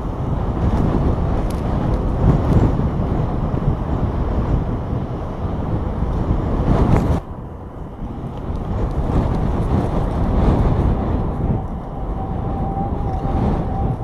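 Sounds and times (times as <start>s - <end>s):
tornado roaring: 0.0s - 14.0s
wind gusting: 0.0s - 14.0s.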